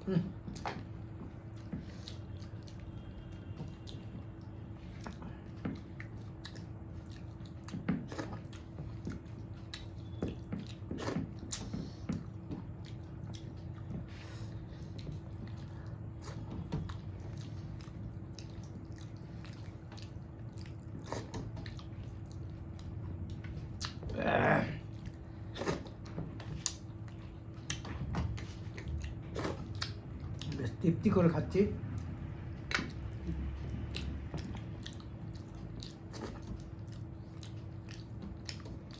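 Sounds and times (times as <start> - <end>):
person chewing food: 0.0 - 30.8, 31.8 - 38.9
steady low hum: 0.0 - 38.9.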